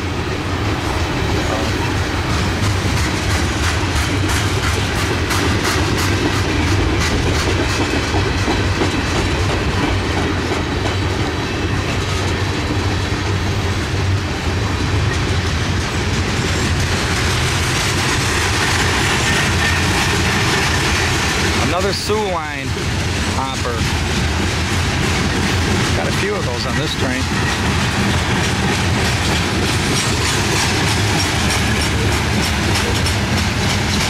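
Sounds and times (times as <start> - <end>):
freight train rolling past: 0.0 - 34.0
wheels clicking over rail joints: 0.0 - 34.0.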